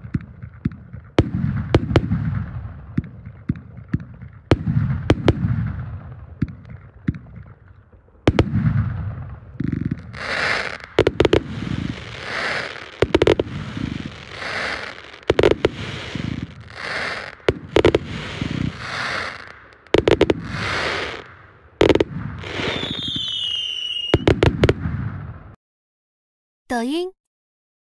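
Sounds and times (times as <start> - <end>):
crackling firework bursts: 0.0 - 25.6
firework launch pops and booms: 0.0 - 25.6.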